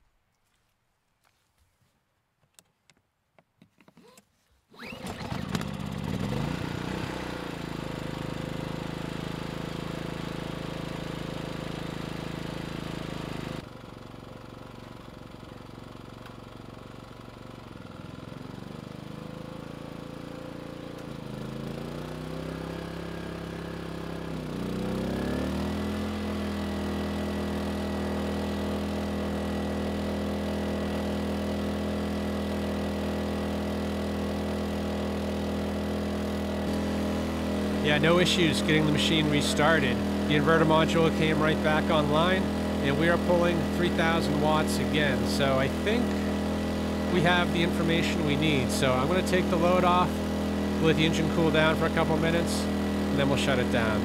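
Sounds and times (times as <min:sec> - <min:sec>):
generator engine running: 0:04.8 - 0:54.0.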